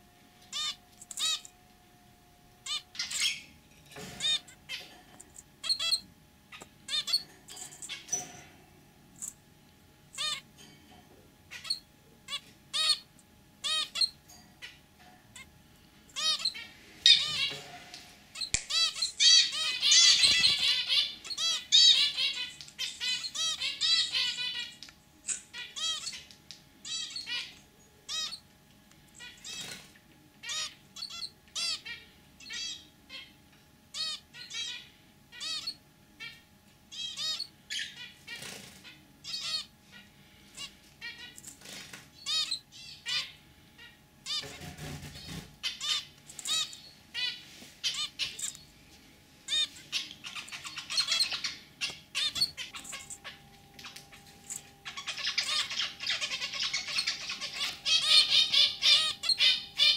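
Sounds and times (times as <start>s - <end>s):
finches chirping: 0.4s - 1.6s, 2.6s - 4.9s, 5.6s - 8.4s, 10.1s - 10.5s, 11.5s - 14.8s, 16.1s - 17.7s, 18.3s - 28.5s, 29.1s - 29.8s, 30.4s - 48.8s, 49.5s - 59.9s.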